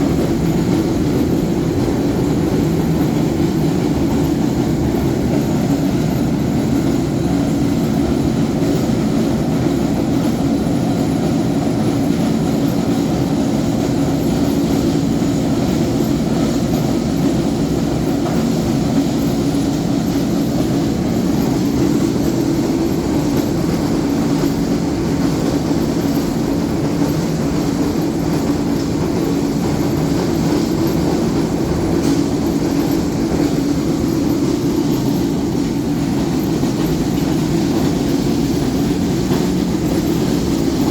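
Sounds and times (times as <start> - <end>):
grinding mill running: 0.0 - 40.9.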